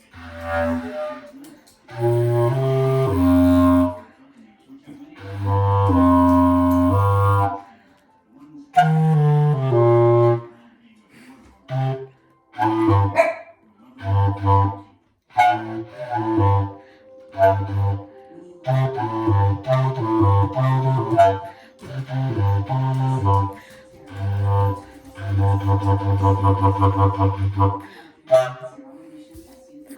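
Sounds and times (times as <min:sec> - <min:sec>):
low-pitched wind instrument: 0:00.0 - 0:04.0, 0:05.2 - 0:07.6, 0:08.8 - 0:10.5, 0:11.7 - 0:13.4, 0:14.0 - 0:28.8.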